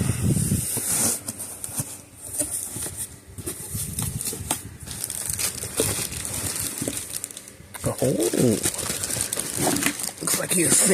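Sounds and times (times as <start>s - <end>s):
cardboard box rustling and scraping: 0.0s - 7.2s, 8.3s - 10.9s.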